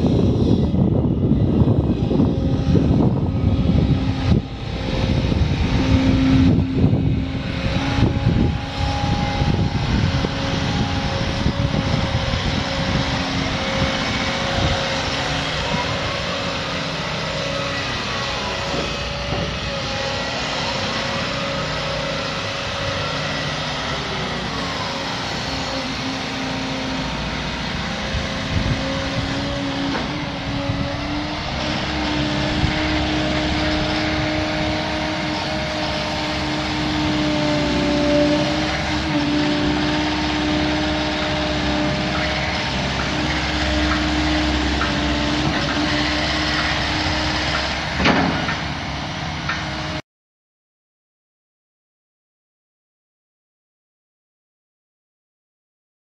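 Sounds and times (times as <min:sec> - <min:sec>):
excavator diesel engine running: 0:00.0 - 0:50.0
heavy rumbling: 0:00.0 - 0:50.0.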